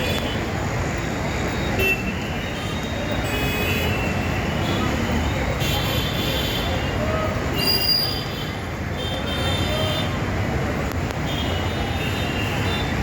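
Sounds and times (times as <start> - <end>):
rumble of traffic: 0.0 - 13.0.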